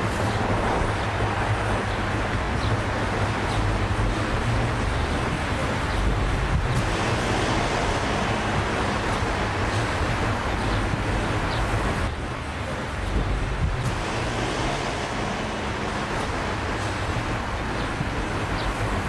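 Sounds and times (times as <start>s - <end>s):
distant road traffic: 0.0s - 19.0s.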